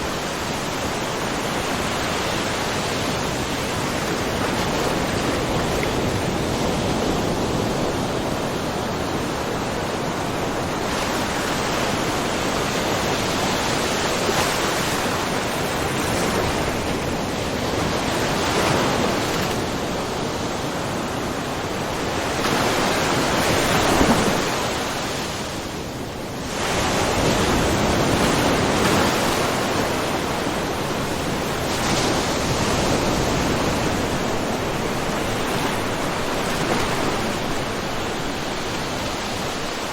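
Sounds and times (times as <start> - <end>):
ocean waves lapping on rocks: 0.0 - 25.7, 26.4 - 39.9.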